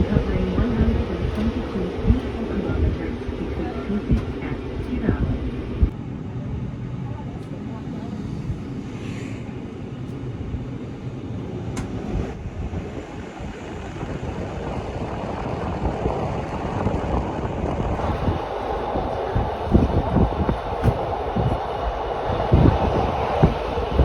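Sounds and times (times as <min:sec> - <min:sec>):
train wheels rumbling: 0:00.0 - 0:06.0, 0:07.1 - 0:24.0.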